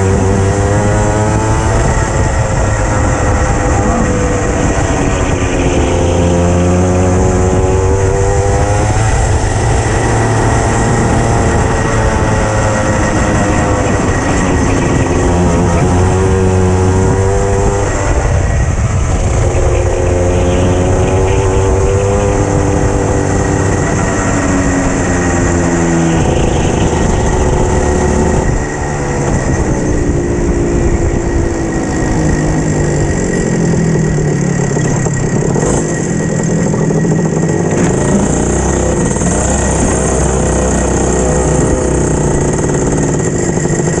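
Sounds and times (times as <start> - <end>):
racing kart engine: 0.0 - 44.0.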